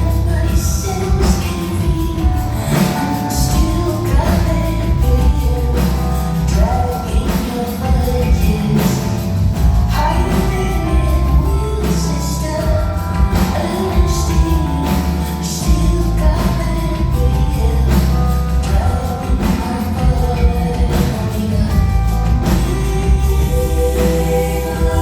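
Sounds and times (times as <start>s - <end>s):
live band playing: 0.0s - 25.0s
steady drum beat: 0.0s - 25.0s
woman singing: 0.0s - 25.0s.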